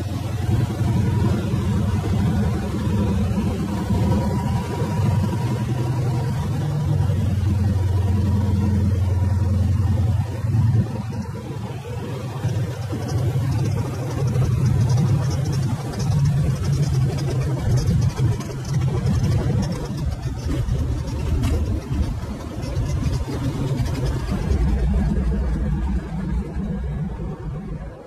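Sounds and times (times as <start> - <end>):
plane engine and propeller droning: 0.0 - 28.0
water rushing under floats: 0.0 - 28.0.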